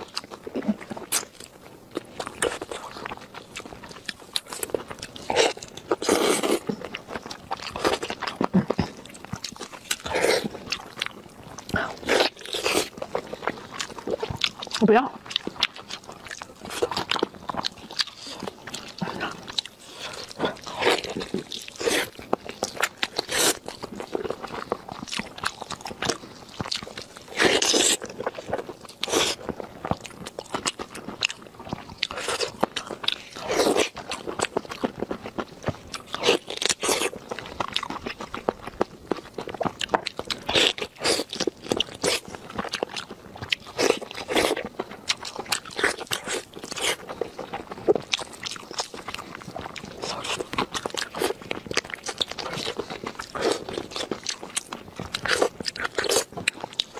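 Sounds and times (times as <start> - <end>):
crunchy bites: 0.0 - 56.9
person chewing meat: 0.0 - 56.9.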